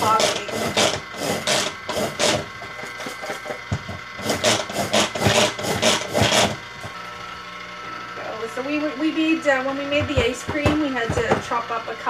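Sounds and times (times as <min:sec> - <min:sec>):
food chopper grinding cookies: 0:00.0 - 0:12.0.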